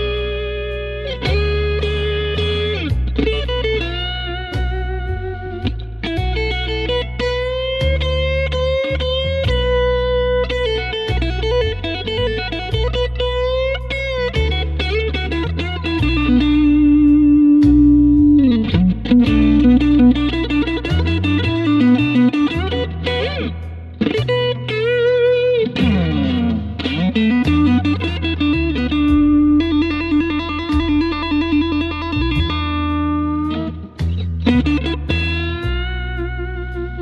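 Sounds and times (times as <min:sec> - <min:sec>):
bass line: 0:00.0 - 0:37.0
electric guitar blues lead: 0:00.0 - 0:37.0.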